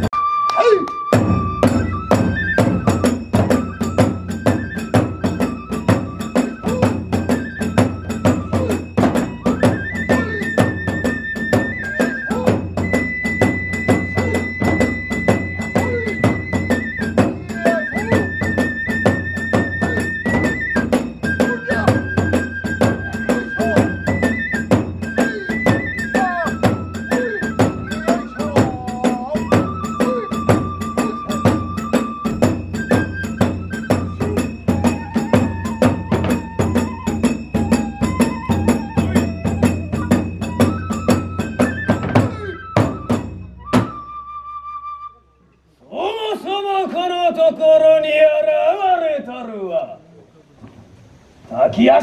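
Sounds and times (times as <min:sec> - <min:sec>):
bamboo flute long notes: 0:00.0 - 0:46.4
taiko drum strokes: 0:01.1 - 0:44.1.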